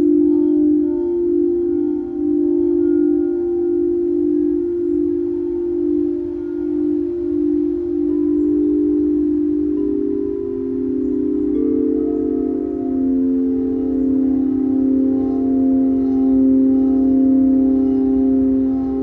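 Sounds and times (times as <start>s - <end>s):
crystal singing bowls ringing: 0.0s - 19.0s.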